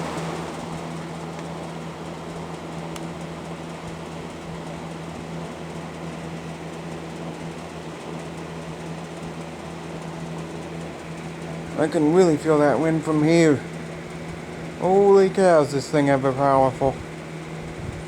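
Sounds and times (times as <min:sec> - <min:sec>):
fan air rushing: 0:00.0 - 0:18.0
low fan motor hum: 0:00.0 - 0:18.0.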